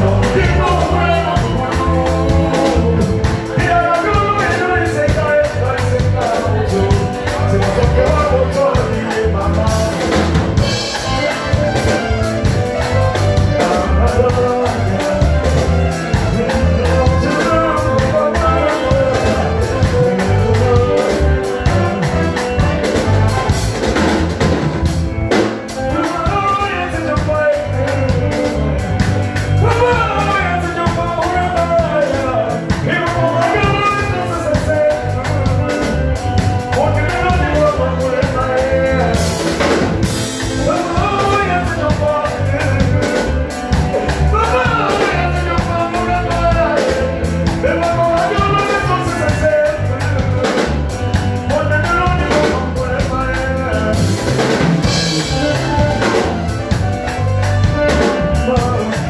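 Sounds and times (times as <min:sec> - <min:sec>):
person singing: 0:00.0 - 0:23.7, 0:24.8 - 0:59.0
drum kit beat: 0:00.0 - 0:59.0.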